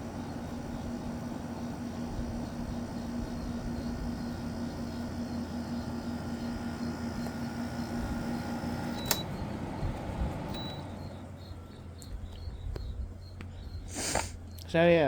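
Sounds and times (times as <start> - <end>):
window air conditioner running: 0.0 - 15.0.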